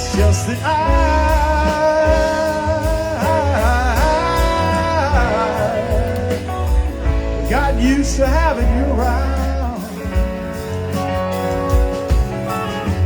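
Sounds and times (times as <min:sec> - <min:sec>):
bass guitar: 0:00.0 - 0:13.0
drums: 0:00.0 - 0:13.0
electric guitar: 0:00.0 - 0:13.0.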